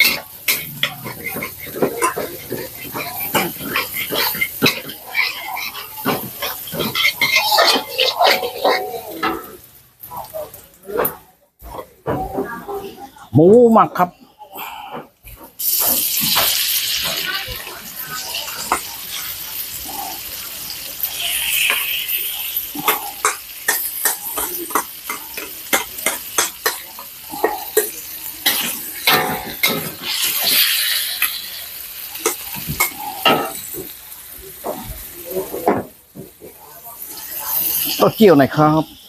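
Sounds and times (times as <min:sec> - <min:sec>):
meat sizzling in a wok: 0:00.0 - 0:39.0.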